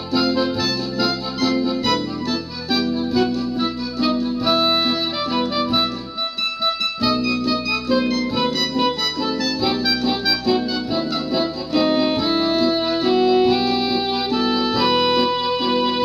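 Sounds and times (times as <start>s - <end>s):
electronic keyboard melody: 0.0s - 16.0s.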